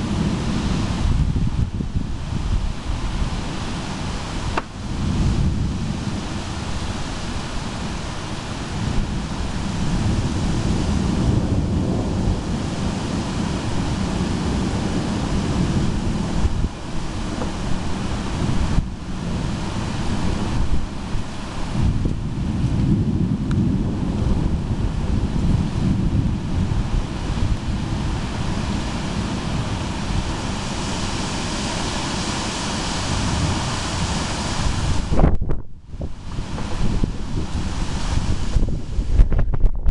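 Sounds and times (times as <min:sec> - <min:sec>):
thunderstorm rushing noise: 0:00.0 - 0:39.9
wind buffeting microphone: 0:00.0 - 0:39.9.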